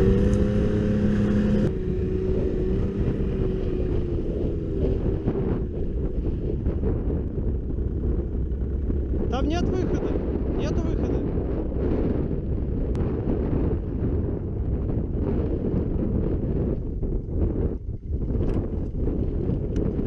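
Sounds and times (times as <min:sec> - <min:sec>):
snowmobile engine running: 0:00.0 - 0:20.0
wind buffeting microphone: 0:00.0 - 0:20.0.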